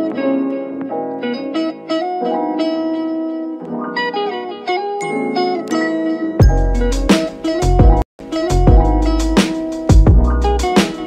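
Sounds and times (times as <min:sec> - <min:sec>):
plucked-string melody: 0:00.0 - 0:11.0.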